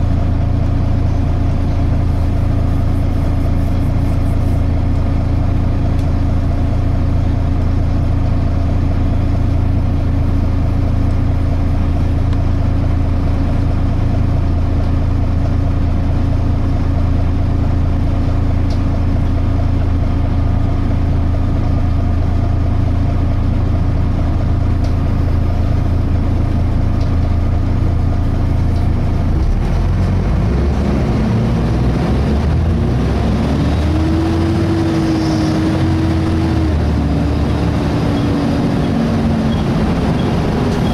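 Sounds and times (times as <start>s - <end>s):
bus diesel engine idling and revving: 0.0s - 40.9s.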